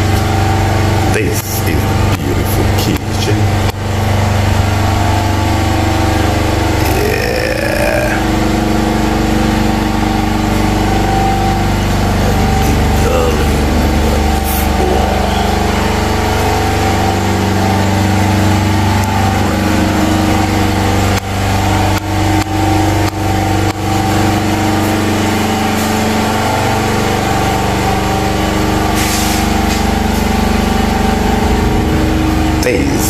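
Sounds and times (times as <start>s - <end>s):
generator engine drone: 0.0s - 33.0s.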